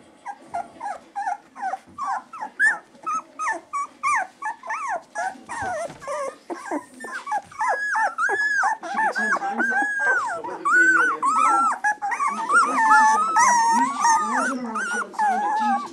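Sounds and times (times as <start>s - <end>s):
puppies whining and yelping: 0.2s - 15.9s.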